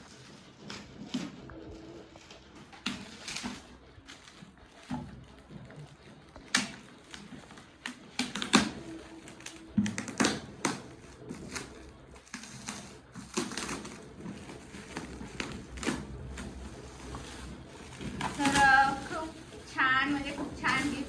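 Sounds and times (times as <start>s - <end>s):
wrapping paper rustling and tearing: 0.0s - 21.0s.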